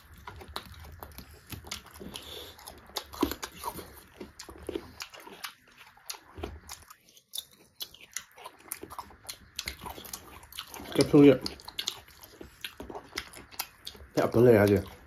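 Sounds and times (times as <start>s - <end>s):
wet chewing and mouth clicks: 0.0s - 15.0s.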